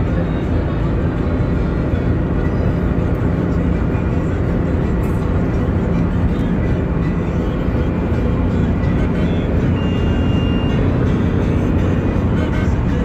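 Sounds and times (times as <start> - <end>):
car interior road noise: 0.0 - 13.0.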